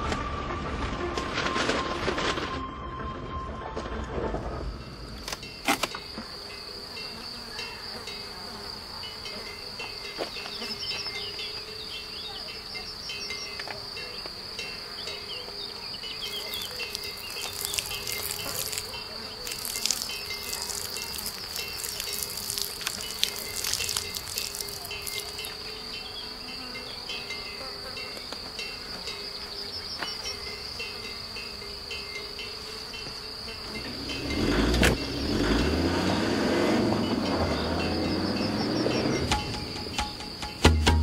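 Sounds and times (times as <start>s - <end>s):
insects chirping: 0.0s - 41.0s.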